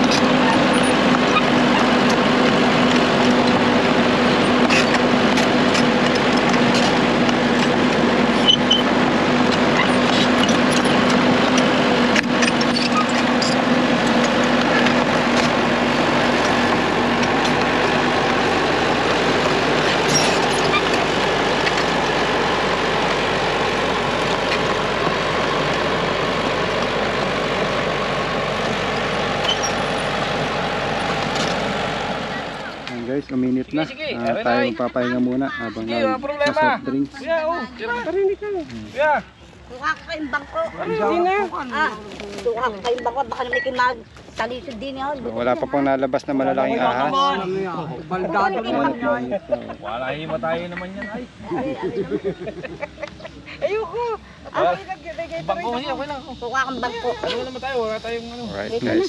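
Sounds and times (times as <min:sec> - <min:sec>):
excavator diesel engine running: 0:00.0 - 0:38.0, 0:39.3 - 0:59.0.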